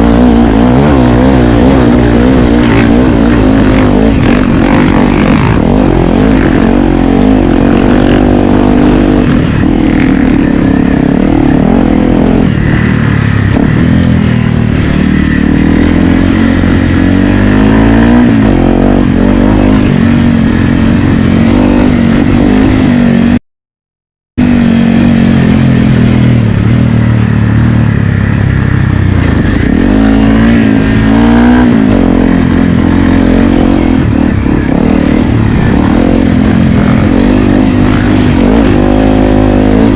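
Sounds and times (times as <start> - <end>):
motorcycle engine revving: 0.0 - 23.4, 24.4 - 39.9.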